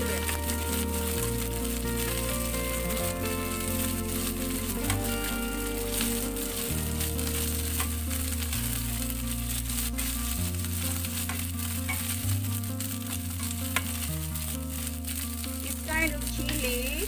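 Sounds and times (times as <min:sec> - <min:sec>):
background music with bass: 0:00.0 - 0:17.0
peppers sizzling in a wok: 0:00.0 - 0:17.0.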